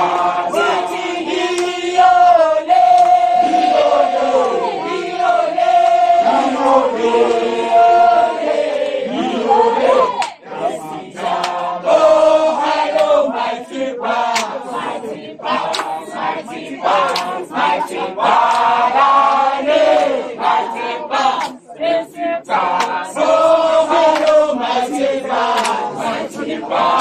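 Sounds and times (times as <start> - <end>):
crowd singing and chanting: 0.0 - 27.0.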